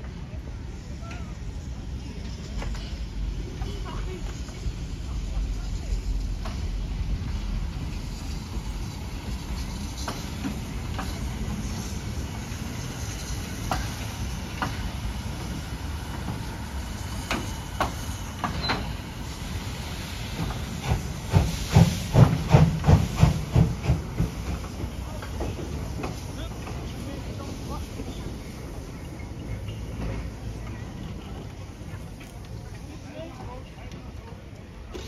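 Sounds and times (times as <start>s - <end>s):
steam locomotive hiss and rumble: 0.0s - 35.0s.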